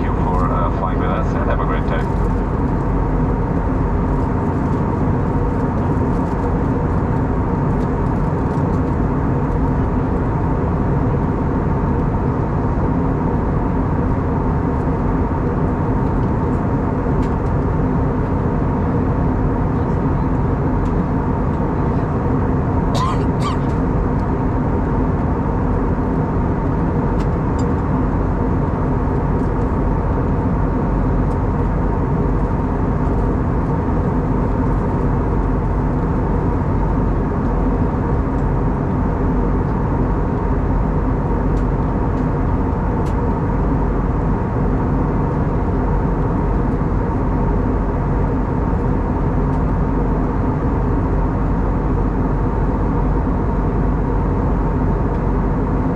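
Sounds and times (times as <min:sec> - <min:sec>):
aircraft engine hum: 0:00.0 - 0:55.9
airflow rushing in aircraft cabin: 0:00.0 - 0:55.9.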